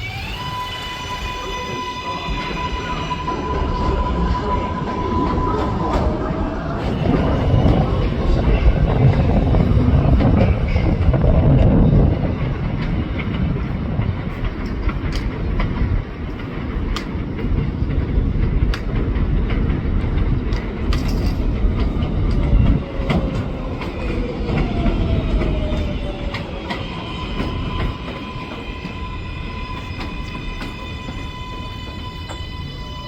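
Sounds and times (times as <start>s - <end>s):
train rumbling on track: 0.0s - 33.0s
wheels clicking over rail joints: 5.3s - 32.6s.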